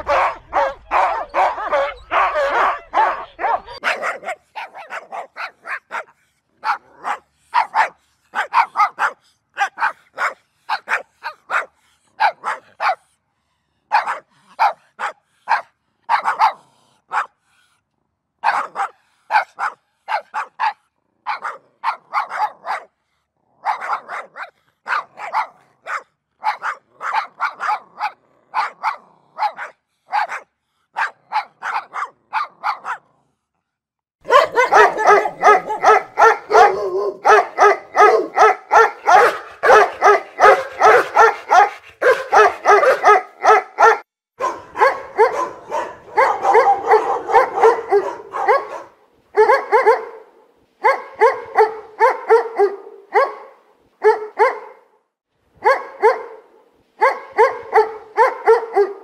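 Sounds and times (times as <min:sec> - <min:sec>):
dog barking: 0:00.0 - 0:13.1, 0:13.9 - 0:17.4, 0:18.4 - 0:23.0, 0:23.6 - 0:33.2, 0:34.2 - 0:55.0, 0:55.6 - 0:59.0.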